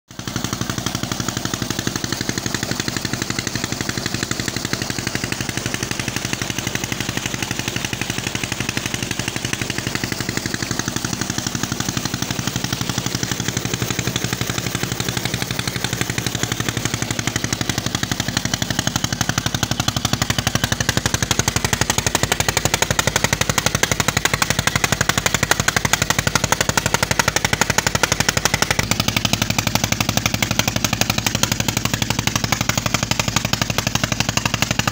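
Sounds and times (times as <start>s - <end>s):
diesel pump engine beating: 0.1s - 34.9s
water gushing and splashing: 1.8s - 34.9s.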